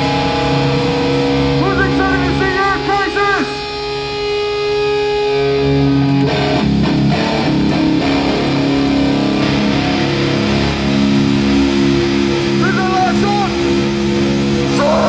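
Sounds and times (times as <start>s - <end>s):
distorted electric guitar chord: 0.0s - 15.0s
hardcore band playing riff: 0.0s - 15.0s.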